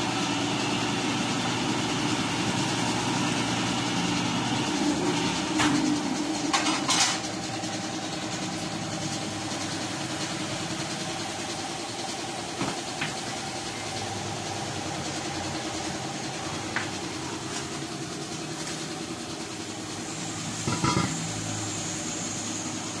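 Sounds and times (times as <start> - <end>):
air compressor pulsing drone: 0.0 - 23.0.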